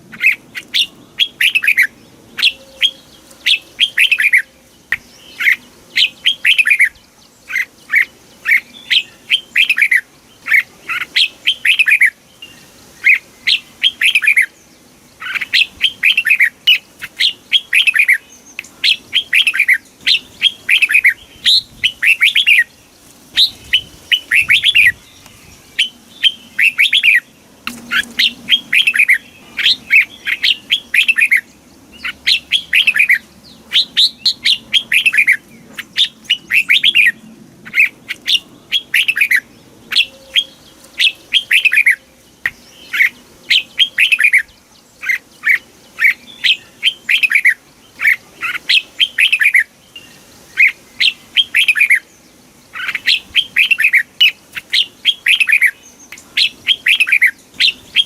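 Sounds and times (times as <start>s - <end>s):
bulbul singing whistled notes: 0.1s - 14.6s, 23.4s - 37.2s, 37.8s - 52.1s, 52.8s - 58.0s.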